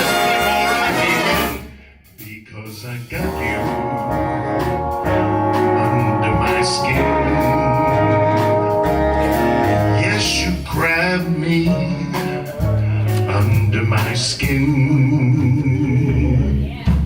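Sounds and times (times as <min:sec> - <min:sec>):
man singing: 0:00.0 - 0:08.8, 0:09.7 - 0:17.0
big band playing swing music: 0:00.0 - 0:17.0.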